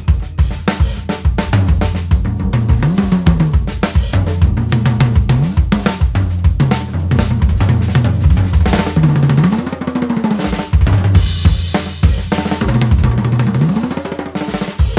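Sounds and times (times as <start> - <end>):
drum kit groove: 0.0 - 14.9
pitch-bending tom notes: 1.3 - 13.9.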